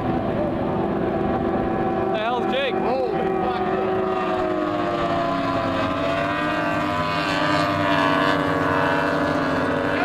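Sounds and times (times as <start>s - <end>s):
race boat engines droning: 0.0s - 10.0s.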